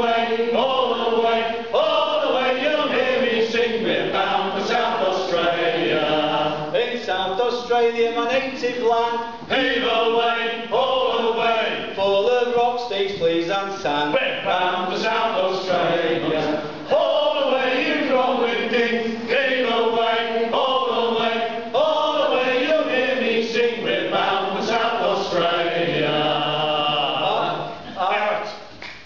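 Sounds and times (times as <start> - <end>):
men singing sea shanty: 0.0 - 8.2, 9.4 - 13.5, 14.1 - 28.0.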